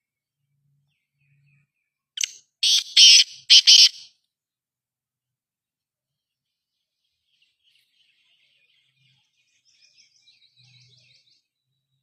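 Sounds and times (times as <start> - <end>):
faint bird chirping: 0.0 - 4.1, 6.1 - 12.0.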